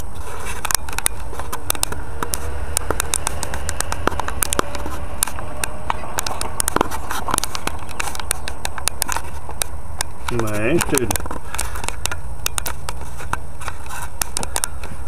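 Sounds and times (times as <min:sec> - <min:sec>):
camera handling clicks and crackles: 0:00.0 - 0:15.0
steady low rumble: 0:00.0 - 0:15.0.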